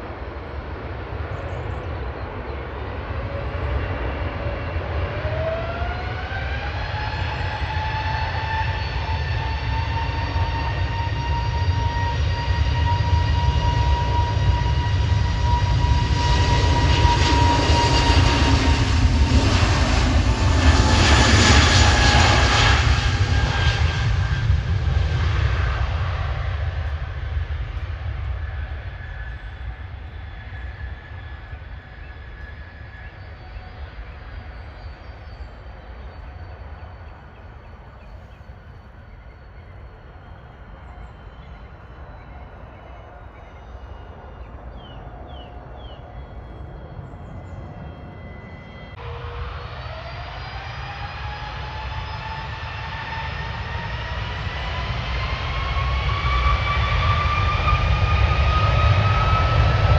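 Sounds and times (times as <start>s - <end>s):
jet airliner engines: 0.0s - 59.9s
jet engine whine rising in pitch: 0.0s - 59.9s.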